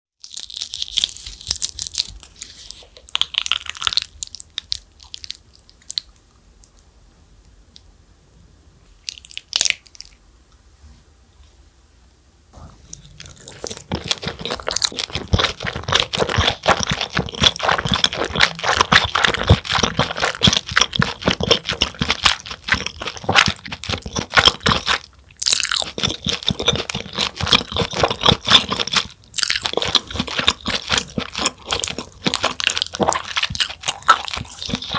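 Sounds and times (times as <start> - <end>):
crunching and chewing: 0.2 - 6.8, 9.0 - 10.2, 12.8 - 34.9.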